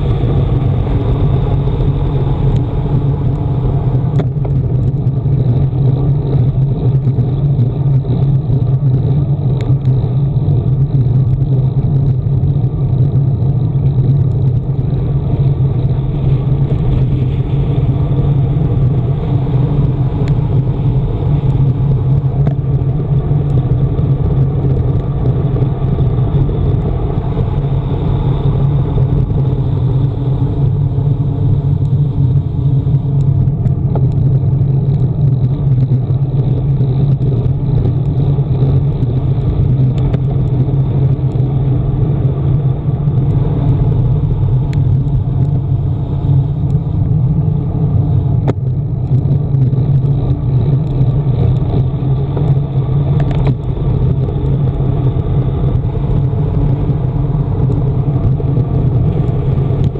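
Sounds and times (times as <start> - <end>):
bike tyres on asphalt: 0.0 - 59.9
wind buffeting microphone: 0.0 - 59.9.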